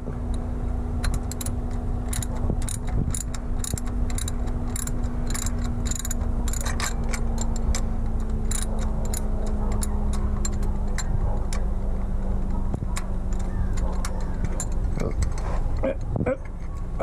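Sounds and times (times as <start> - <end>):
steady low hum: 0.0 - 17.0
socket ratchet clicking: 1.0 - 16.9.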